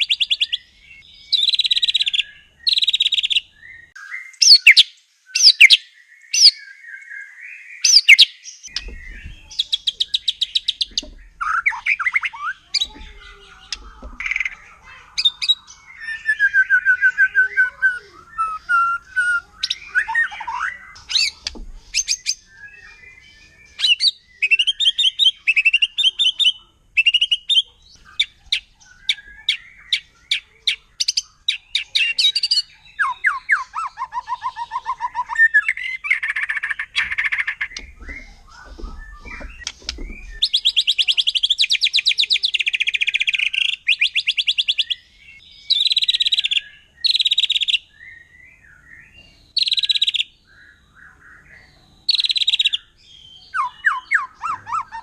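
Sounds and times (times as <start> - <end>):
songbird singing varied song: 0.0 - 55.0.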